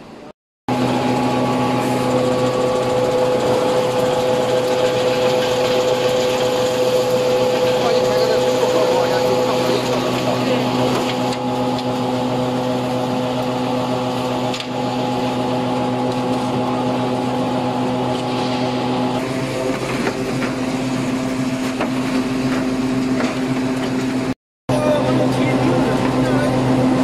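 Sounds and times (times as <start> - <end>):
oil press motor hum: 0.7 - 27.0.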